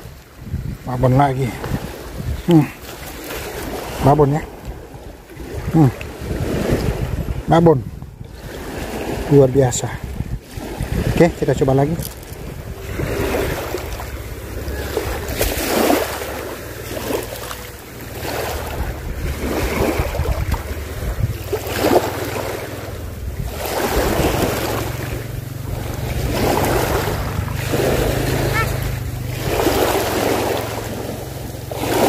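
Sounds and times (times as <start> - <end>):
small waves washing onto shore: 0.0 - 32.0
wind rumbling on microphone: 0.0 - 32.0.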